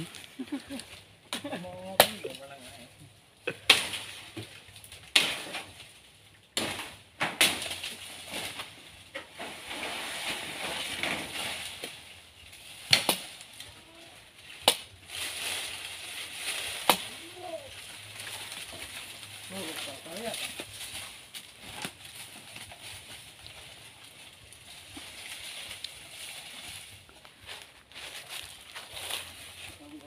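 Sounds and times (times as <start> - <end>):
dry leaves rustling and crackling: 0.0 - 3.0, 7.5 - 30.0.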